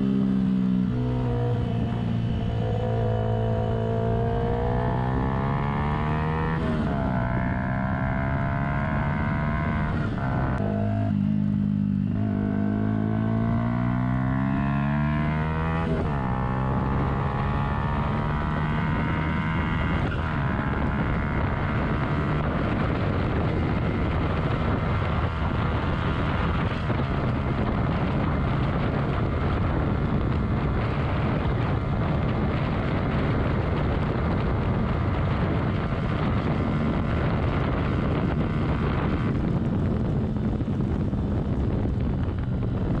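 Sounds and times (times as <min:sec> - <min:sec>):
motorcycle engine revving: 0:00.0 - 0:43.0
wind rushing across microphone: 0:00.0 - 0:43.0.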